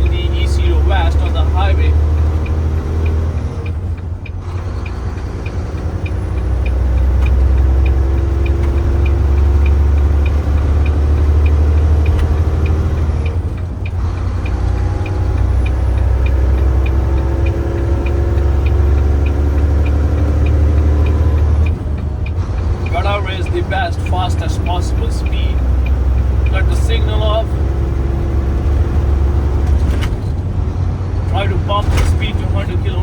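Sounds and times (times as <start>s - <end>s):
diesel truck engine accelerating: 0.0s - 33.0s
turn signal ticking: 0.0s - 33.0s.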